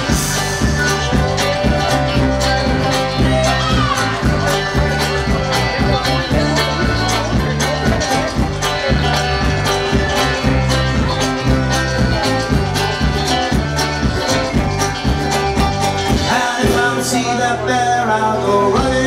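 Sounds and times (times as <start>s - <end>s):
accordion: 0.0s - 19.0s
drums: 0.0s - 19.0s
folk-rock band playing: 0.0s - 19.0s
guitars: 0.0s - 19.0s.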